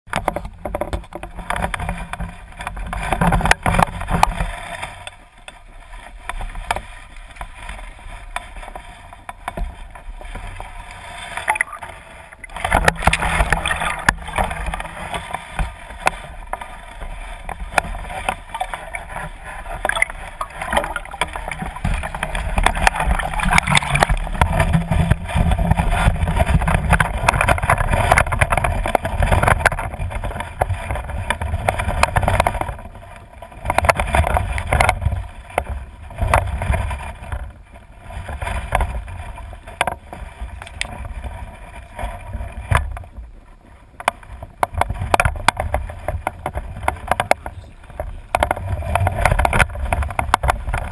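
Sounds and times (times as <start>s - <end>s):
muffled water sloshing and splashing: 0.1s - 50.9s.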